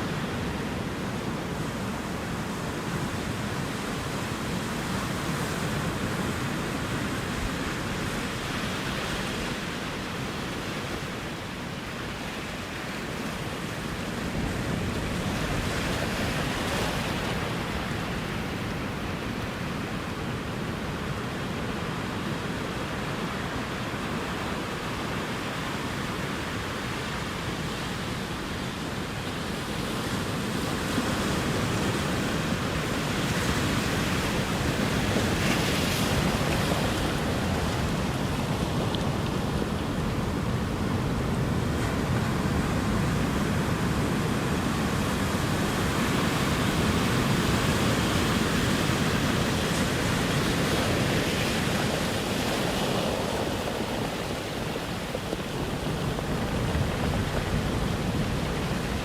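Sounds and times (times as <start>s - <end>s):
ocean surf washing ashore: 0.0s - 59.0s.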